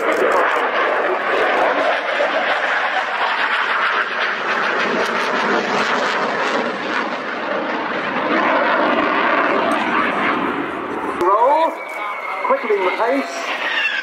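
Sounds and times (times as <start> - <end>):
jet engine roar overhead: 0.0 - 14.0.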